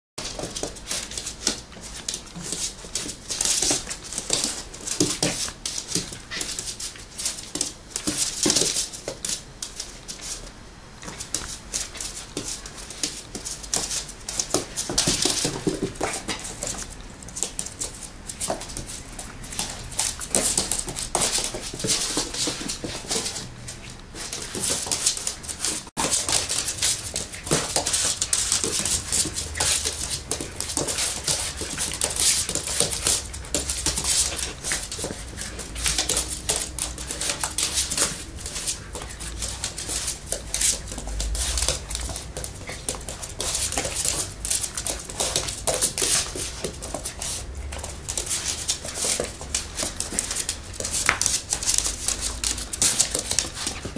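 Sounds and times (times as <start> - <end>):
claws scrabbling on wooden floor: 0.2 - 53.9.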